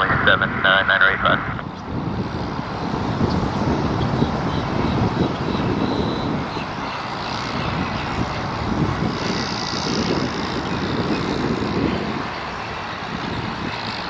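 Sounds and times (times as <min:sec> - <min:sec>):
airplane engine rumble and hiss: 0:00.0 - 0:14.0.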